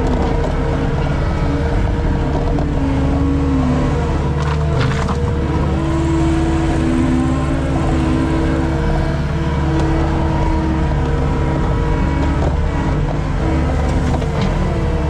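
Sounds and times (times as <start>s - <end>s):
skid steer engine droning: 0.0s - 15.0s.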